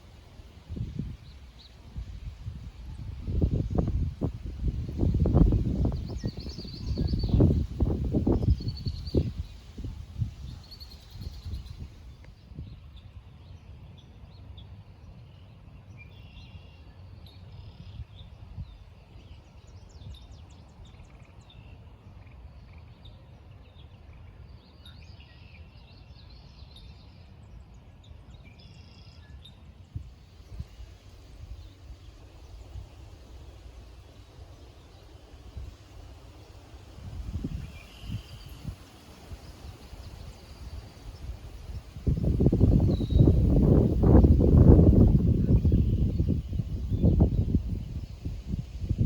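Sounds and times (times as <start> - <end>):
small birds chirping: 0.4 - 49.0.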